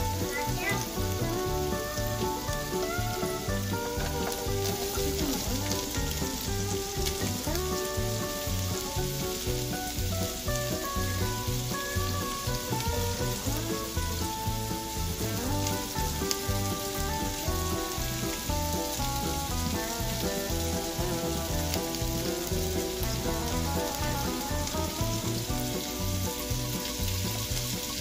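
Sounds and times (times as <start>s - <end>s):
background music: 0.0s - 28.0s
vegetables sizzling in oil: 0.0s - 28.0s.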